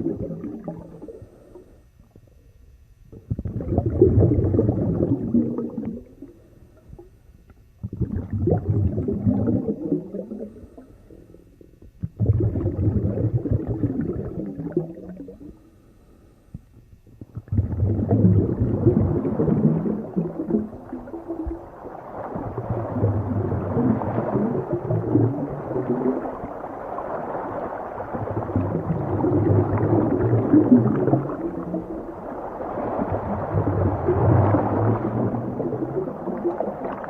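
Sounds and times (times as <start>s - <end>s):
underwater gurgling bubbling: 0.0s - 15.8s, 16.6s - 37.0s.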